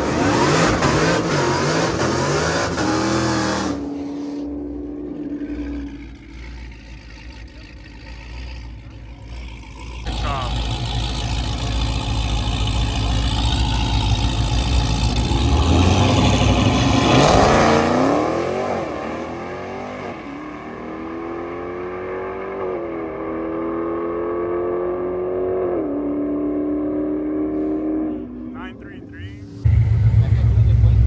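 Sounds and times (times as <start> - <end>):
drag racing car engine: 0.0 - 31.0.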